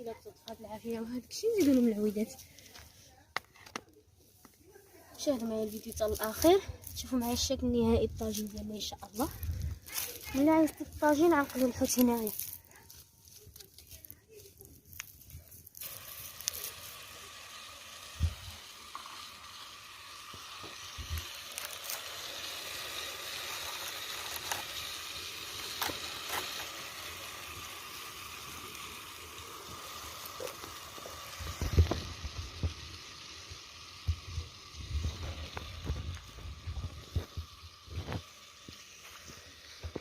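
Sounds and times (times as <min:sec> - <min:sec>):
food sizzling: 0:00.0 - 0:02.4, 0:05.2 - 0:12.7, 0:13.4 - 0:40.0
wood fire crackling: 0:05.2 - 0:40.0.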